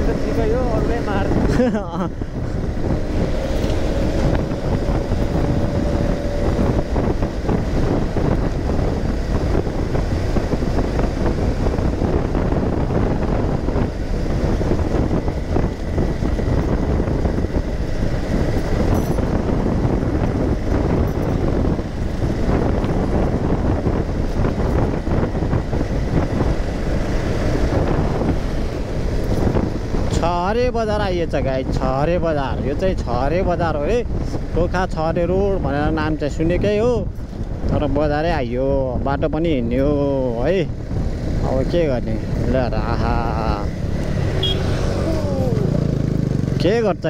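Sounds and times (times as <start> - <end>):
motorcycle engine drone: 0.0 - 47.0
wind and road noise: 0.0 - 47.0.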